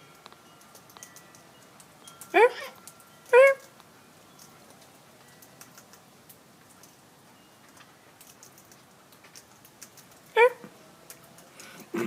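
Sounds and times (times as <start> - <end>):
birds cracking seed clicks: 0.2 - 7.0, 7.7 - 10.4, 11.0 - 11.9.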